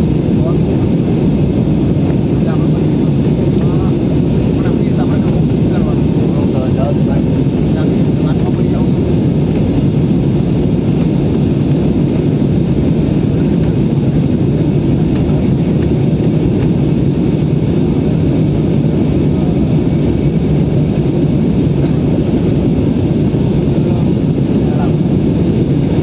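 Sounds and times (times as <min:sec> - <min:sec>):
aeroplane cabin engine rumble: 0:00.0 - 0:26.0.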